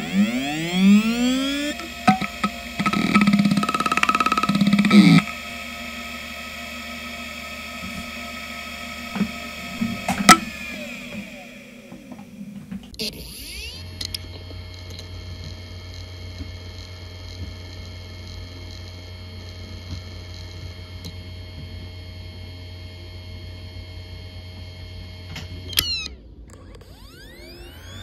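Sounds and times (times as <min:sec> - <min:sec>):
hard drive whine: 0:00.0 - 0:28.0
low hum: 0:00.0 - 0:28.0.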